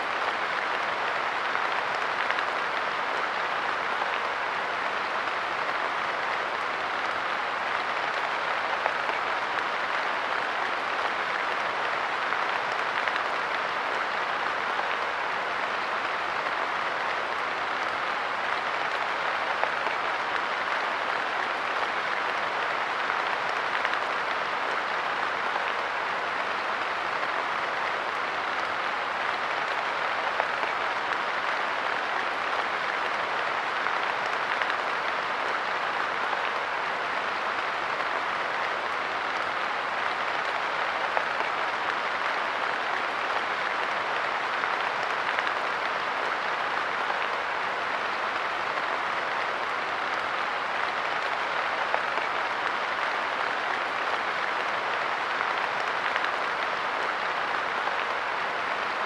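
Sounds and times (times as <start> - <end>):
light rain pattering: 0.0 - 59.0.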